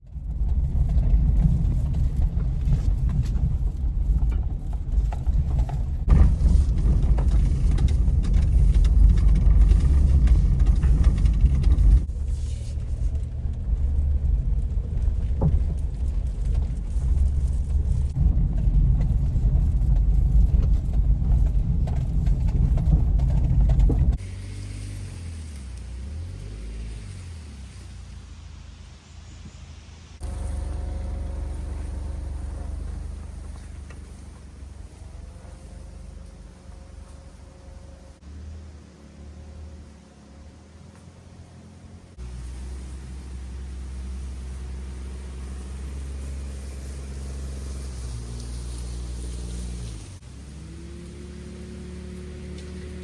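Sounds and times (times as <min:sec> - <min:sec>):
van road and engine rumble: 0:00.0 - 0:53.0.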